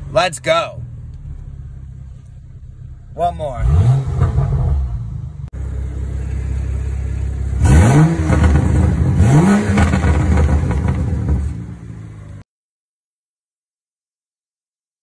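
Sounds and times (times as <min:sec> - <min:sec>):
car engine idling and revving: 0:00.0 - 0:12.4
exhaust burbling: 0:00.0 - 0:12.4.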